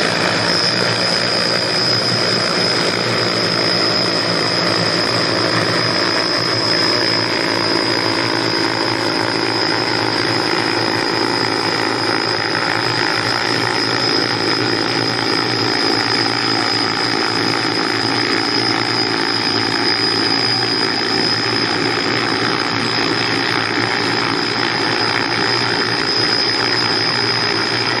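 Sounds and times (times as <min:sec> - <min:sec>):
drone rotor hum: 0:00.0 - 0:28.0
high-pitched motor whine: 0:00.0 - 0:28.0.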